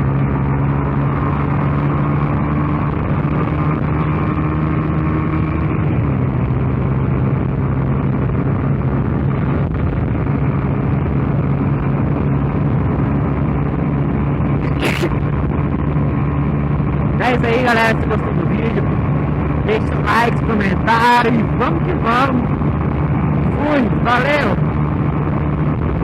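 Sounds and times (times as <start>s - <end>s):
motorcycle engine running: 0.0s - 26.0s
wind noise on helmet camera: 0.0s - 26.0s.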